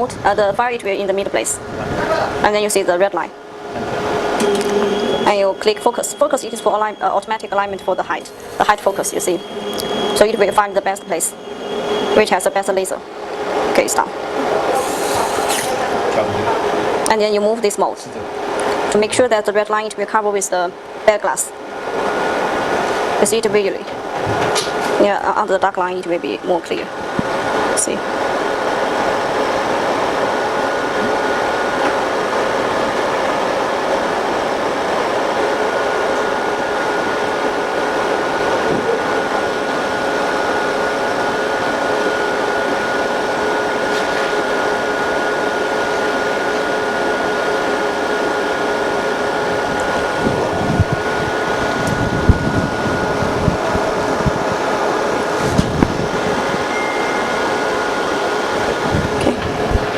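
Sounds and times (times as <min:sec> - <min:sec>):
faint high whine: 0:00.0 - 0:23.8, 0:24.9 - 0:59.9
cooling fans whirring hum: 0:00.0 - 0:59.9.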